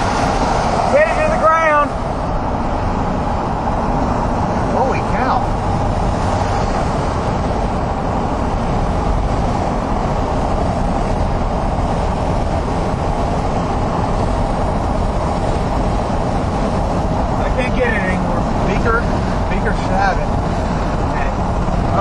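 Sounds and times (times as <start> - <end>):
car driving on wet road: 0.0 - 22.0.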